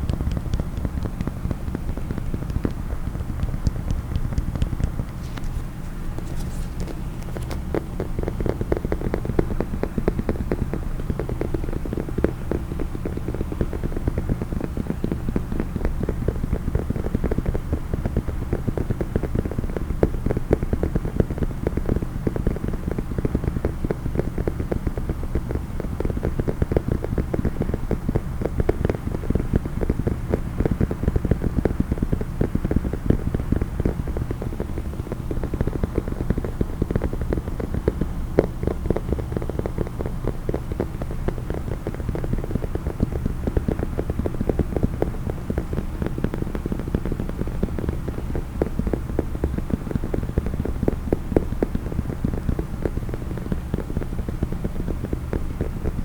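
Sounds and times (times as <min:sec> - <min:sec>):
fast tapping on hard case: 0:00.0 - 0:56.0.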